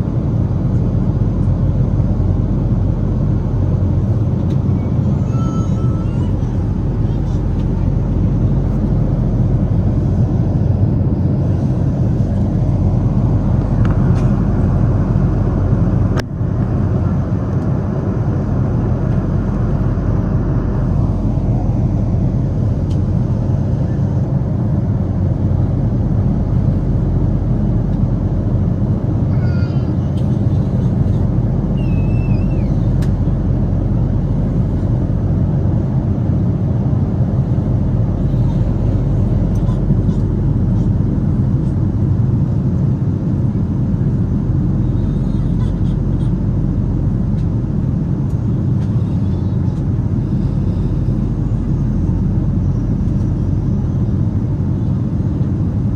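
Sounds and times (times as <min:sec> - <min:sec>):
airplane cabin engine noise: 0:00.0 - 0:55.9.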